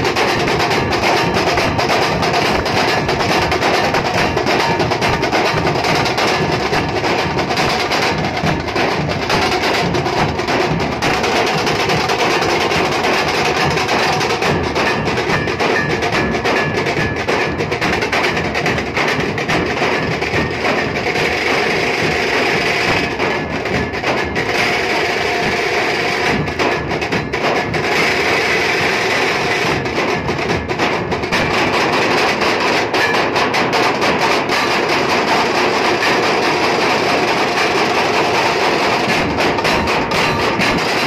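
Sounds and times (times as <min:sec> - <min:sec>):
drum ensemble fast rhythm: 0:00.0 - 0:41.0.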